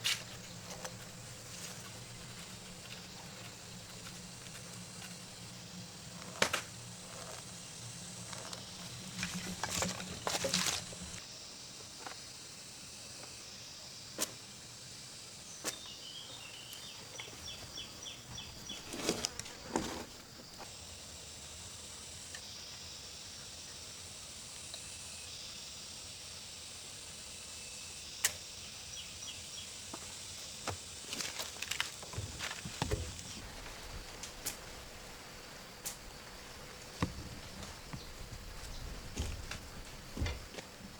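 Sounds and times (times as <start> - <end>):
forest background hiss: 0.0 - 40.9.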